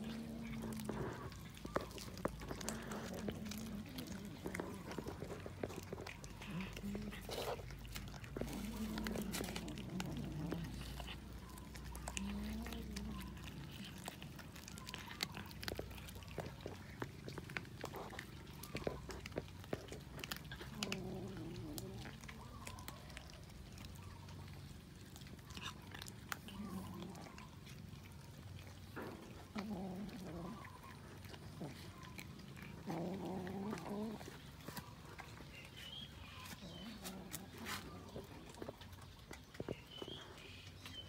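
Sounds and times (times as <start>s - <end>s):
cats chewing raw fish: 0.0s - 41.0s.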